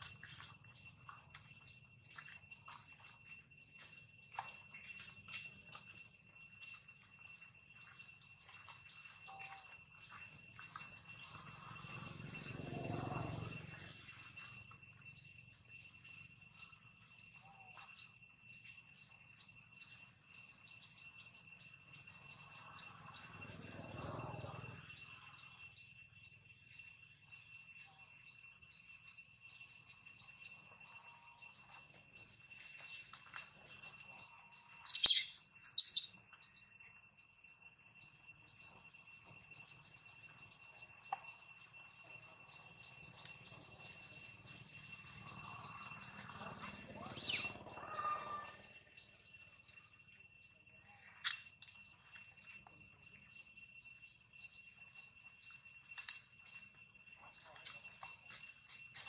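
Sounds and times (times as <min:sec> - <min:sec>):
faint steady high tone: 0:00.0 - 0:59.0.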